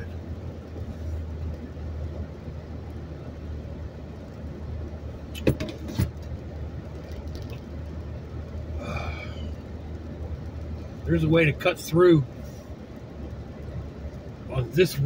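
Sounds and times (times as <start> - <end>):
car cabin engine drone: 0.0 - 15.0
tyres hissing on wet road: 0.0 - 15.0.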